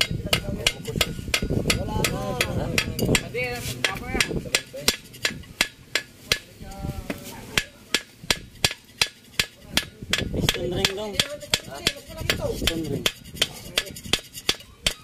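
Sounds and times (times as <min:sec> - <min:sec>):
hammer tapping on metal: 0:00.0 - 0:06.5, 0:07.6 - 0:15.0.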